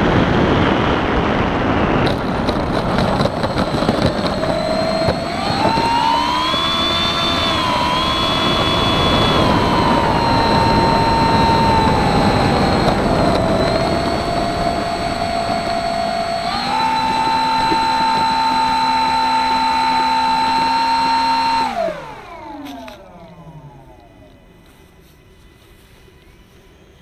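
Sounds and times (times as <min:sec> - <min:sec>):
propeller spinning down: 0:00.0 - 0:24.8
model airplane motor whining: 0:00.1 - 0:27.0.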